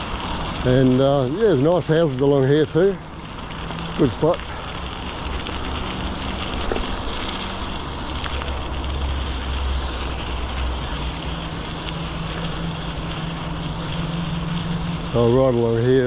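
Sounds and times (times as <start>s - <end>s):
low rumble from bike ride: 0.0s - 16.0s.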